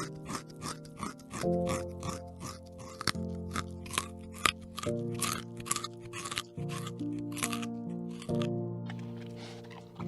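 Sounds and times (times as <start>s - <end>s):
background music sustained chords: 0.0s - 10.0s.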